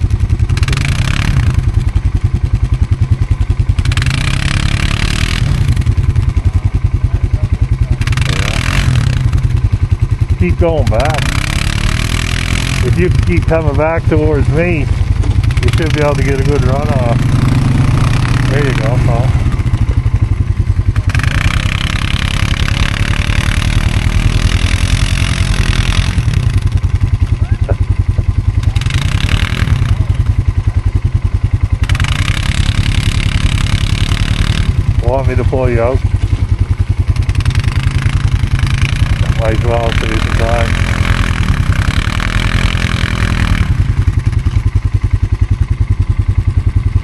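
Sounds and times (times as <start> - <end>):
atv engine idling: 0.0 - 47.0
atv engine revving: 0.0 - 47.0.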